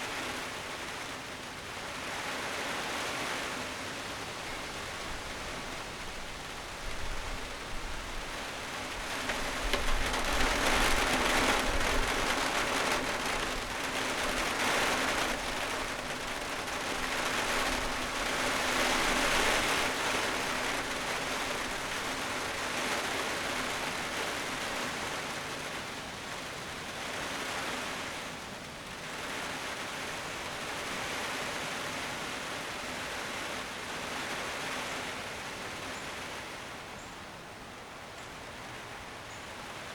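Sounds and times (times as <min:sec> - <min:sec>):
wind rustling leaves: 0:00.0 - 0:39.9.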